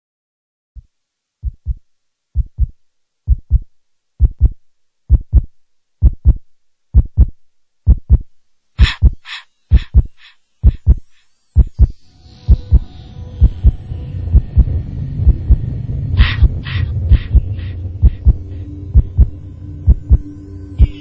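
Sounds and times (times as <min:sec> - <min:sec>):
heartbeat thumps: 0:01.4 - 0:01.8, 0:02.4 - 0:21.0.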